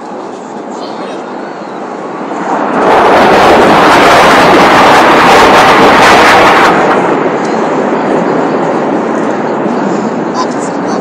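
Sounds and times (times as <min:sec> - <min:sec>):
military aircraft flying overhead: 0:00.0 - 0:11.0.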